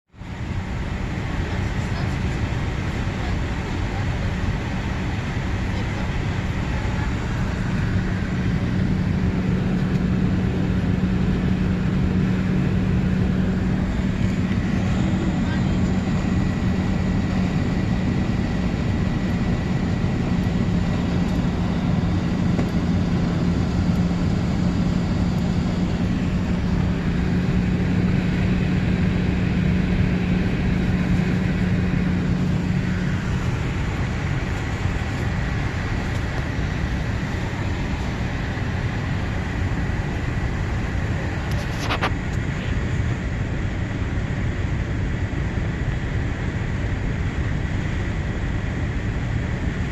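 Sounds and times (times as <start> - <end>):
jet engines rumbling in cabin: 0.1 - 49.9
low hum: 5.2 - 49.8.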